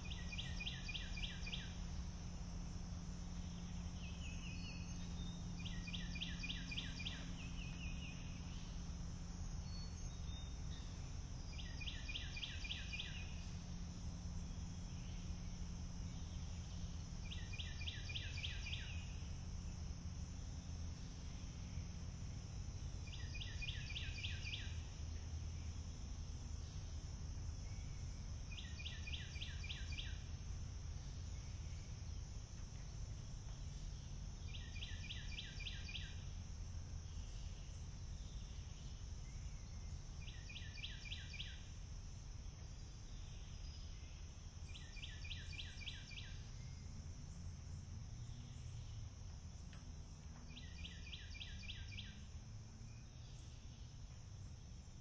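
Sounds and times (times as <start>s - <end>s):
low outdoor rumble: 0.0s - 55.0s
songbird rapid trill: 0.0s - 55.0s.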